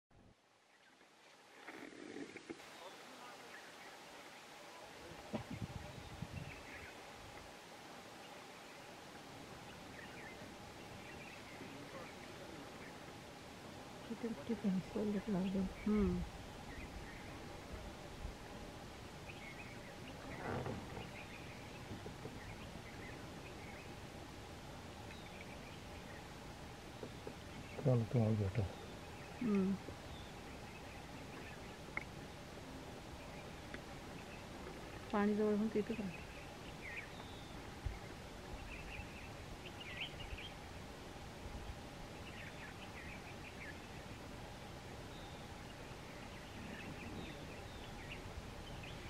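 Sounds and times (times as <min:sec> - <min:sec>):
outdoor background hiss: 0:00.1 - 0:49.0.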